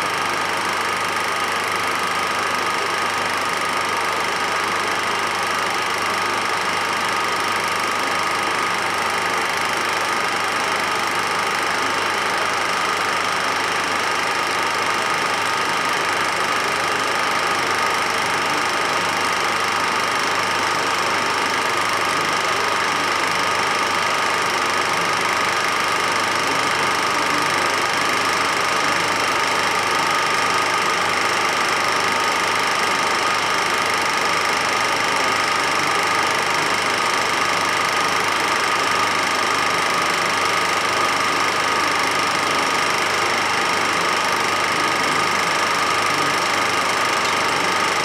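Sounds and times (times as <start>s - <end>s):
film projector running: 0.0s - 48.0s.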